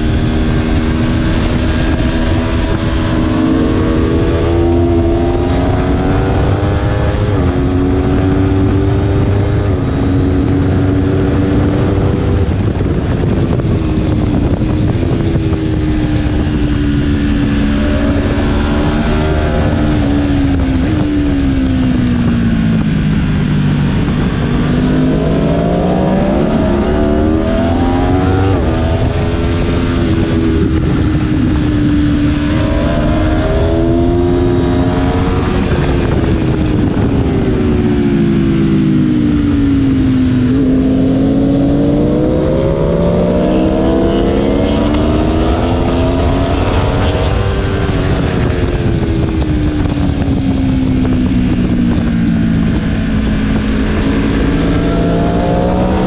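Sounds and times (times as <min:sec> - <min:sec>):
motorcycle engine at high speed: 0:00.0 - 0:56.0
wind rush: 0:00.0 - 0:56.0.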